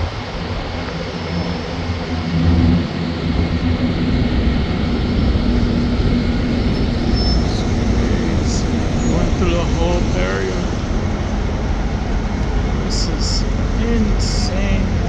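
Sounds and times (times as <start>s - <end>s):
heavy vehicle engine rumbling: 0.0s - 15.0s
street traffic: 0.0s - 15.0s.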